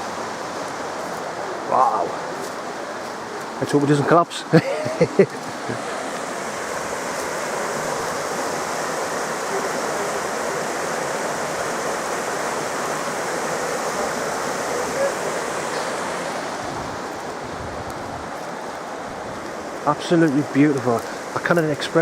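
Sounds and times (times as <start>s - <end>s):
forest stream rushing: 0.0s - 22.0s.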